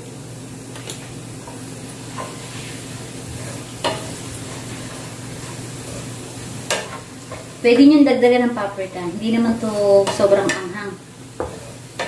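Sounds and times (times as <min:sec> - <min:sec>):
garlic sizzling in oil: 0:00.0 - 0:12.0
wooden spatula stirring in pan: 0:01.4 - 0:12.0.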